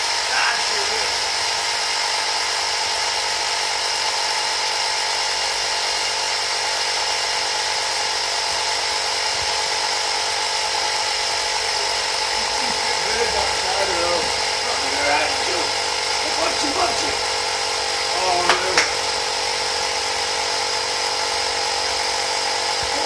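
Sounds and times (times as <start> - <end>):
electric air compressor running: 0.0 - 23.0.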